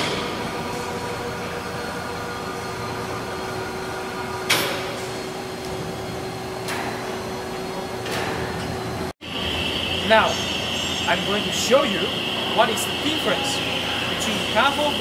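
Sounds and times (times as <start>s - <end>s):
hall hum: 0.0s - 15.0s.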